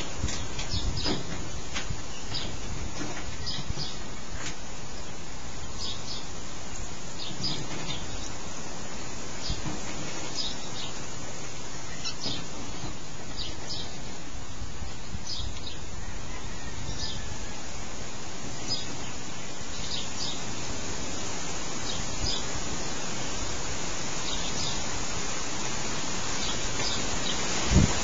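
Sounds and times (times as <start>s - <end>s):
birds chirping: 0.0s - 28.0s
steady background hiss: 0.0s - 28.0s.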